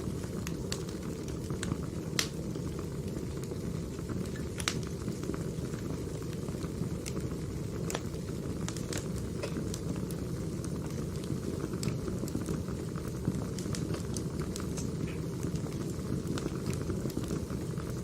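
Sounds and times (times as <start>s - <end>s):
logs popping and crackling: 0.0s - 18.0s
rush of flames: 0.0s - 18.0s.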